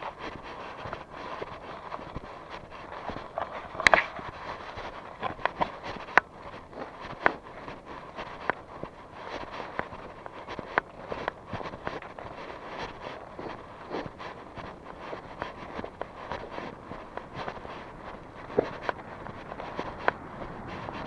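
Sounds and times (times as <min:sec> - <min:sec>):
feet scuffing: 0:00.0 - 0:21.0
footsteps walking outdoors: 0:00.0 - 0:21.0.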